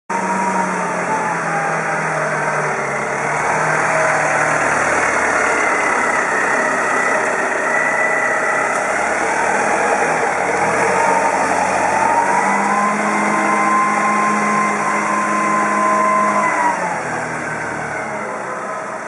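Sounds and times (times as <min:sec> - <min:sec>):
forklift engine running: 0:00.1 - 0:19.0.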